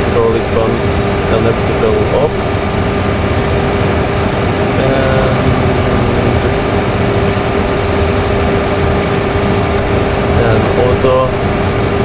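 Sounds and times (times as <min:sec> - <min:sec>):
cockpit fans humming: 0:00.0 - 0:12.0.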